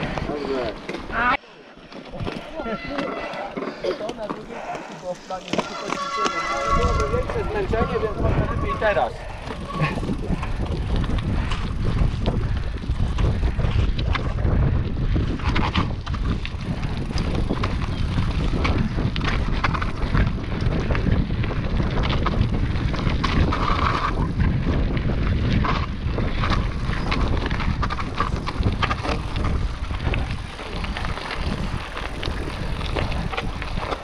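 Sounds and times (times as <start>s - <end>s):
bike tyres and frame rattling: 0.0s - 34.0s
wind buffeting microphone: 4.3s - 34.0s.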